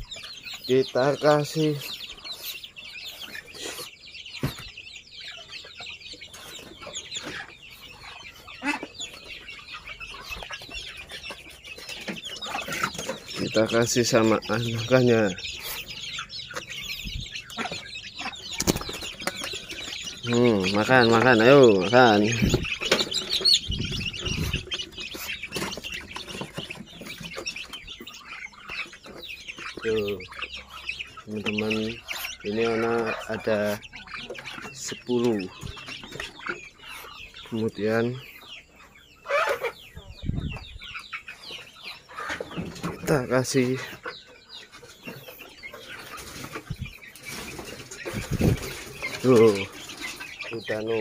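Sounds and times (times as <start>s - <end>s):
chickens clucking: 0.0s - 51.0s
chicks peeping: 0.0s - 51.0s.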